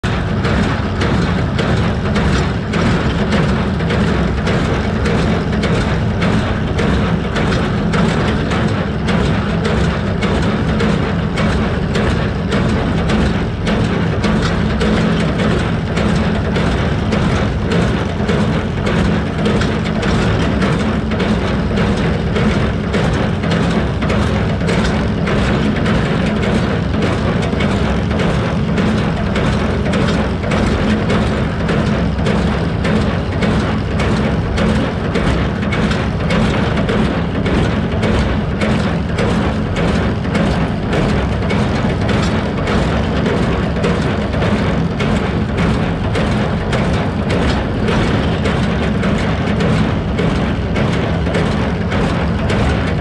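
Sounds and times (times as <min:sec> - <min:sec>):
tractor engine running: 0:00.0 - 0:53.0
hay baler mechanism clattering: 0:00.1 - 0:53.0.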